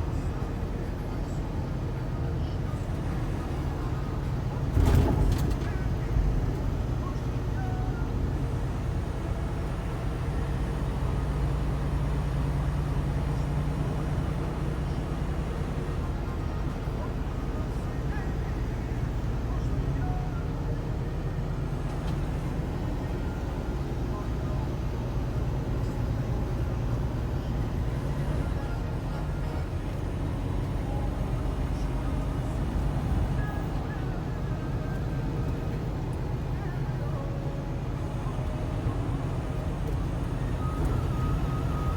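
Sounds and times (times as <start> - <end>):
road noise: 0.0 - 41.9
truck engine drone: 0.0 - 41.9.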